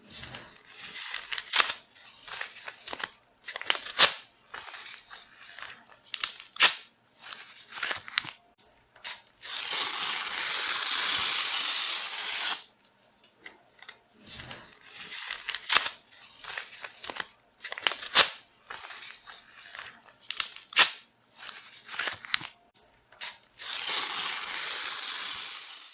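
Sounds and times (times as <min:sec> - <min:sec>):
paper tearing: 0:00.0 - 0:08.4, 0:09.0 - 0:12.7, 0:14.3 - 0:22.5, 0:23.2 - 0:25.9.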